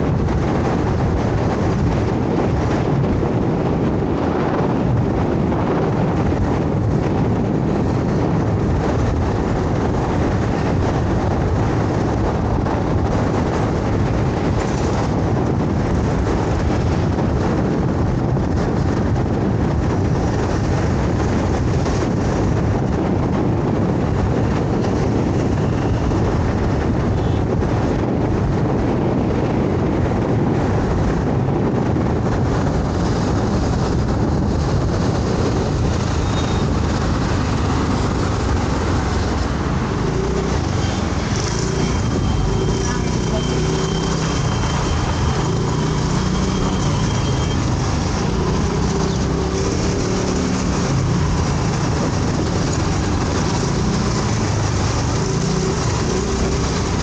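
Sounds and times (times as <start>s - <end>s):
scooter road noise: 0.0s - 57.0s
wind on microphone: 0.0s - 57.0s.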